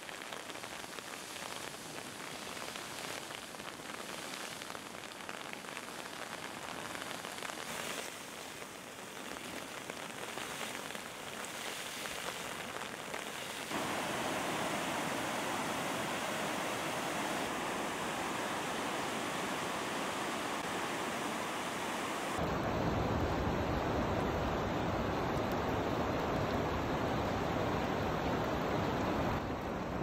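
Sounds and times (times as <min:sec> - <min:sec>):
floodwater rushing: 0:00.1 - 0:30.0.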